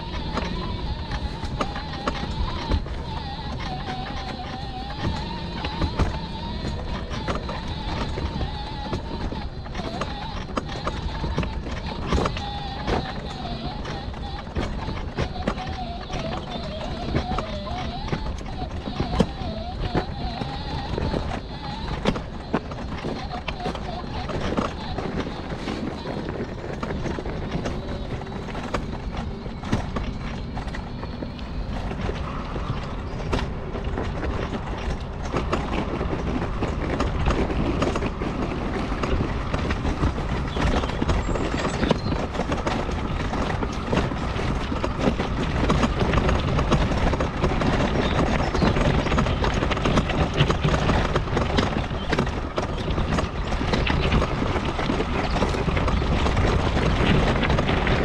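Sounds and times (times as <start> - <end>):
mobility scooter frame rattling: 0.0 - 58.0.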